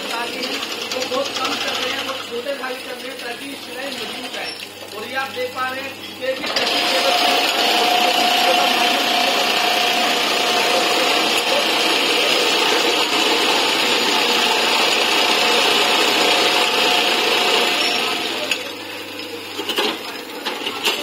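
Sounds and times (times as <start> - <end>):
industrial sewing machine running: 0.0 - 21.0.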